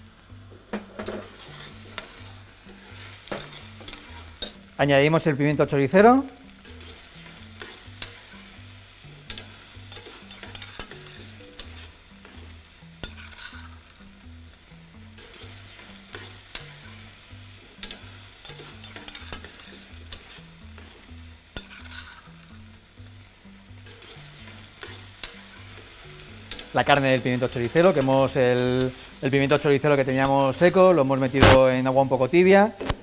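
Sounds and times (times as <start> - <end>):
vegetables sizzling in a pan: 0.0 - 33.0.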